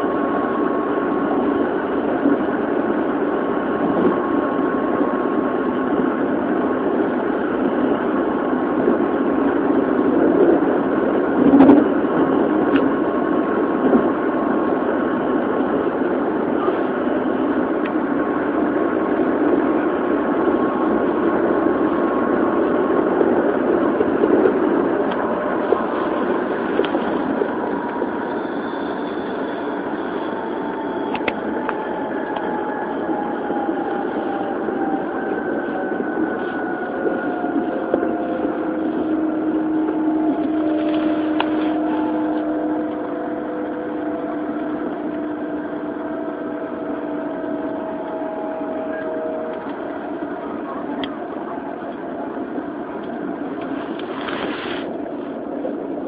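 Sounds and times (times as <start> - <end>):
electric motor whine: 0.0 - 54.4
train rumble: 0.0 - 56.0.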